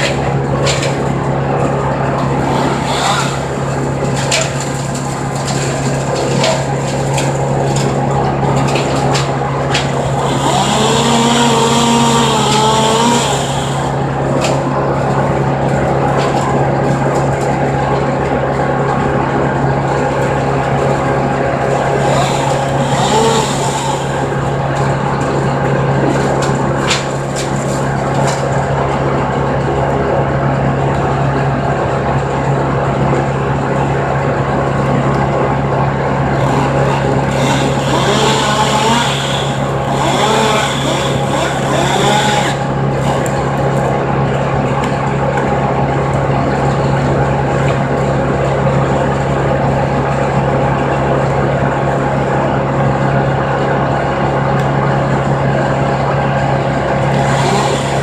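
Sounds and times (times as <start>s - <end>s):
chipper engine droning: 0.0s - 58.0s.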